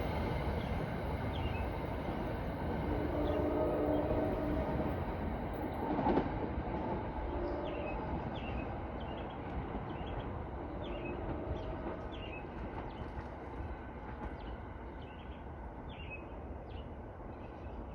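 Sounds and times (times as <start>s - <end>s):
train rumbling: 0.0s - 17.9s.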